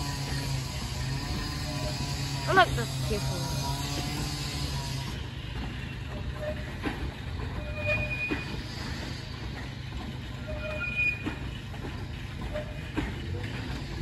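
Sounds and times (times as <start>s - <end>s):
high wheel squeals: 0.0s - 11.8s, 12.4s - 14.0s
train wheels rumbling on rails: 0.0s - 14.0s.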